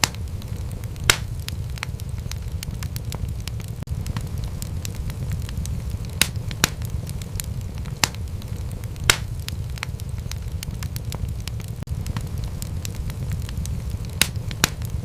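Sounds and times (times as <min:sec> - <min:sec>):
loud fire pops: 0:00.0 - 0:15.0
low rumble of flames: 0:00.0 - 0:15.0
wood fire crackling: 0:00.0 - 0:15.0.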